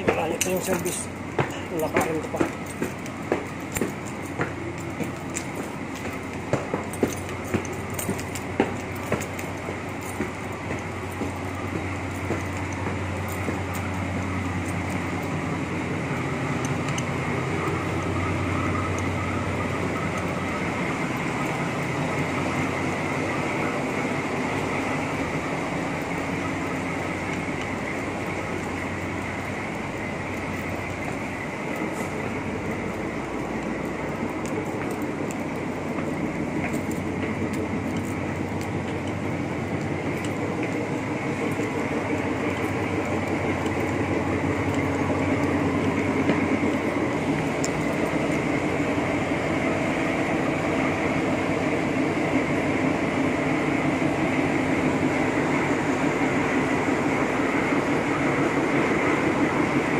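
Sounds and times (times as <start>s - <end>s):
footsteps on concrete stairs: 0.0s - 56.1s
train rumbling: 0.0s - 59.9s.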